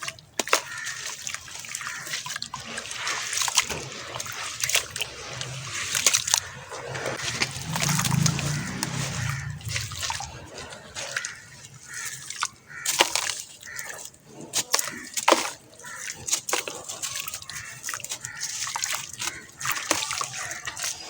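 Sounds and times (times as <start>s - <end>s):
wet crackling and trickling: 0.0s - 21.0s.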